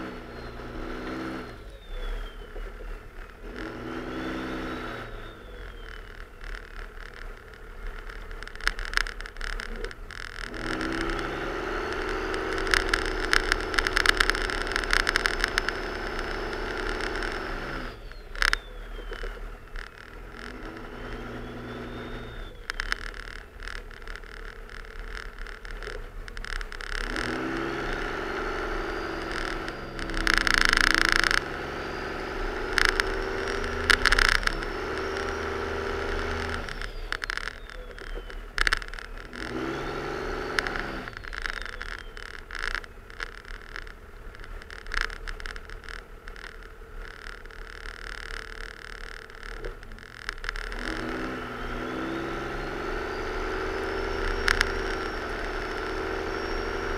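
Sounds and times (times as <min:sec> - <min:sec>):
diesel engine revving: 0:00.0 - 0:56.9
high whine: 0:00.0 - 0:56.9.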